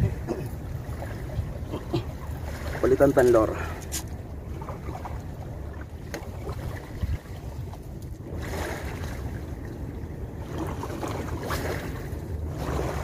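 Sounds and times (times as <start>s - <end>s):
sea waves washing against rocks: 0.0s - 13.0s
wind buffeting microphone: 0.0s - 13.0s.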